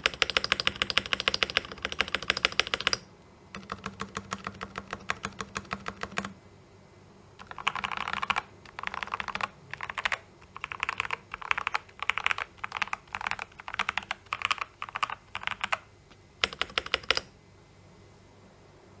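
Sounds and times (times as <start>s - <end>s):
mechanical keyboard typing: 0.0s - 6.4s, 7.4s - 17.3s.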